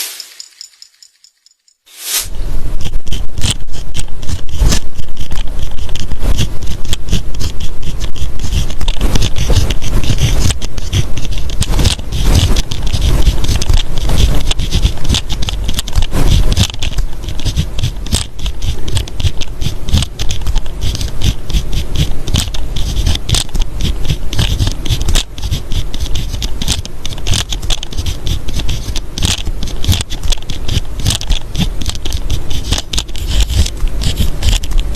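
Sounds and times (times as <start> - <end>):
pen scratching on paper: 1.9 - 34.9.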